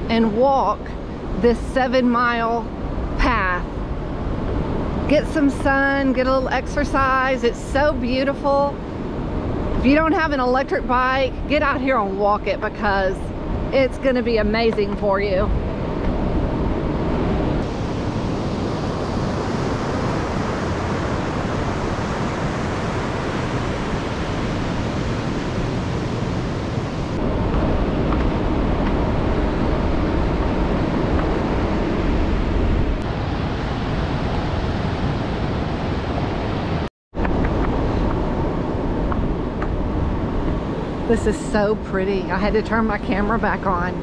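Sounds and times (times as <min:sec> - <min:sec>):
surf washing: 0:00.0 - 0:44.0
wind rushing over microphone: 0:00.0 - 0:44.0.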